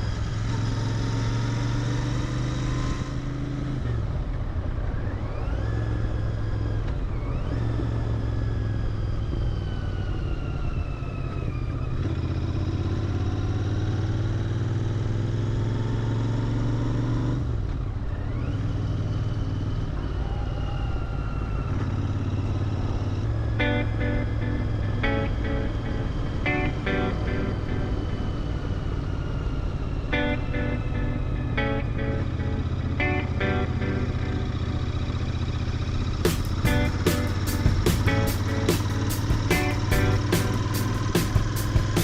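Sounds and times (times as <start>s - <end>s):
motorcycle engine revving: 0.0s - 9.6s, 11.2s - 20.2s, 21.4s - 42.0s.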